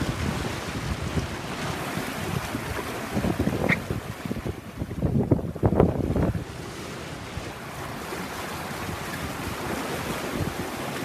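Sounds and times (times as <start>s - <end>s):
sea water rushing along hull: 0.0s - 11.0s
wind on microphone: 0.0s - 11.0s.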